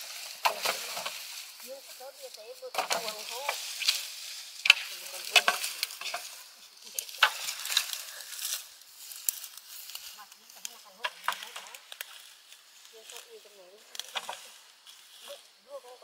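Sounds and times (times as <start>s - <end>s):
dry leaves and twigs crunching: 0.0s - 16.0s.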